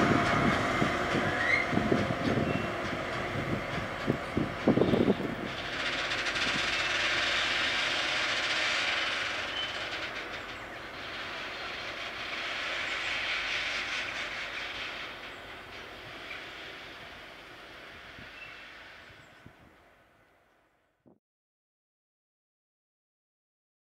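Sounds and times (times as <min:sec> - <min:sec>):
train wheels rushing on rails: 0:00.0 - 0:20.9.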